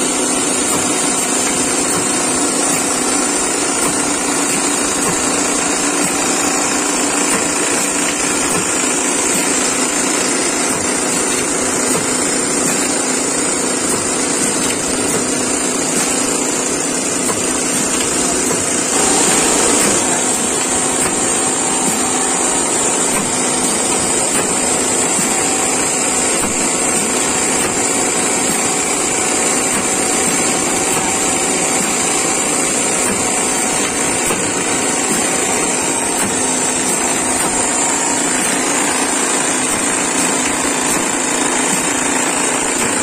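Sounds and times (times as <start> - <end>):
machine humming with high whine: 0.0 - 43.0.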